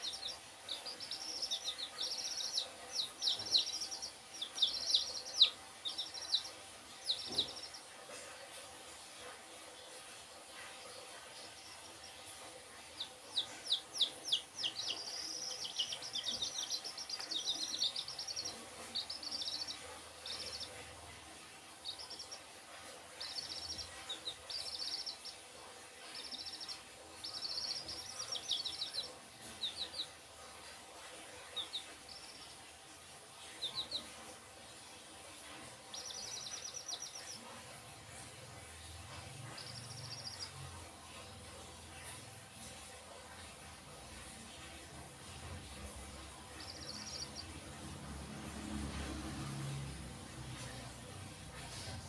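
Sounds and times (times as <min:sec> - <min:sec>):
chicks peeping: 0:00.0 - 0:52.0
faint steady hum: 0:00.0 - 0:52.0.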